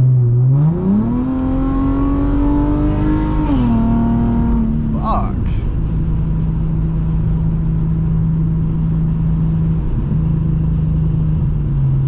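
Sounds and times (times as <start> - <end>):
car engine and road noise drone: 0.0 - 12.0.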